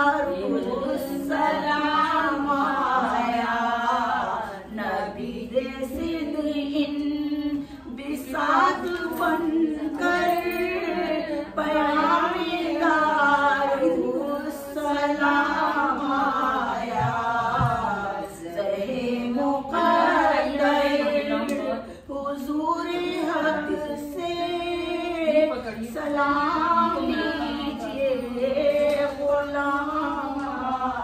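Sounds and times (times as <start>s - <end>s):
women singing chant-like melody: 0.0s - 31.0s.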